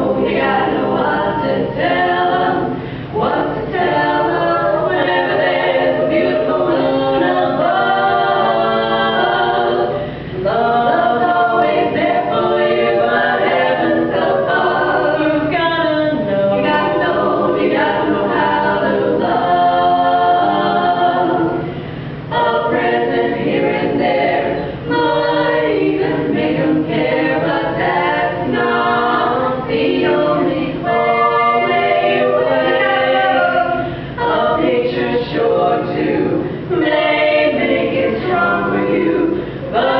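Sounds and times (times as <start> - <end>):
a cappella group singing in harmony: 0.0 - 39.9.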